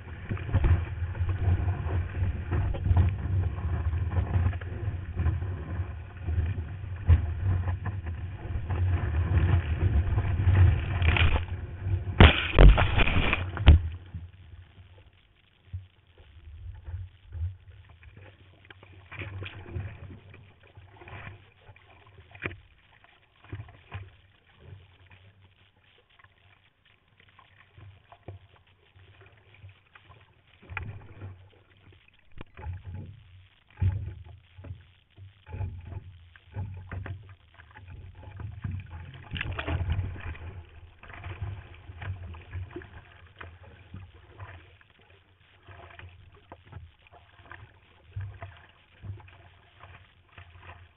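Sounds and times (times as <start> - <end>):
sea water splashing and sloshing: 0.0 - 50.9.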